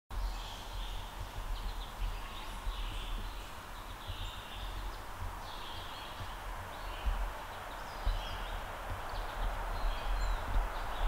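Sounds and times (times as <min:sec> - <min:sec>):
background hiss: 0:00.1 - 0:11.0
birds chirping: 0:00.1 - 0:11.0
low uneven rumble: 0:00.2 - 0:11.0.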